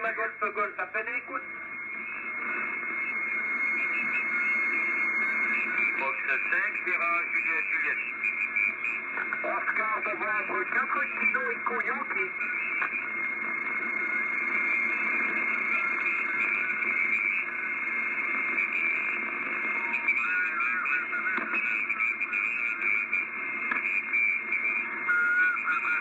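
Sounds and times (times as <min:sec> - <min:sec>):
faint garbled radio voices: 0:00.0 - 0:26.0
radio static: 0:00.0 - 0:26.0.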